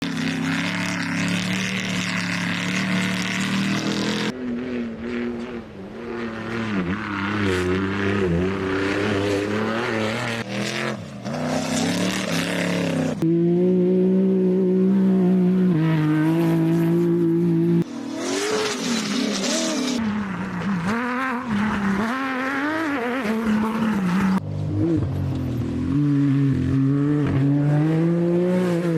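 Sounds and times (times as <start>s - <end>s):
race car engines revving: 0.0s - 28.9s.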